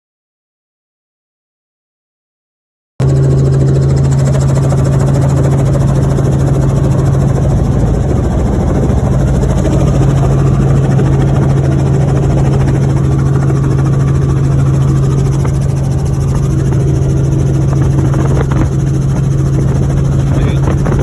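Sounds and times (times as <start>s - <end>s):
helicopter drone: 3.0s - 21.0s.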